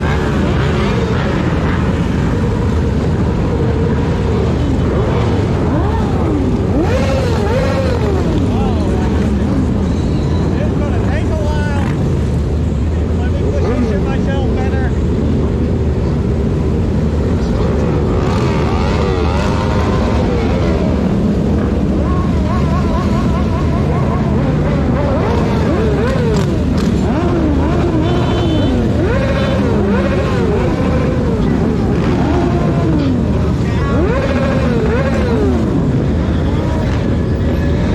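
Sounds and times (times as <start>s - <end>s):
motorcycle engines revving: 0.0s - 37.9s
road traffic: 0.0s - 37.9s
wind: 0.0s - 37.9s.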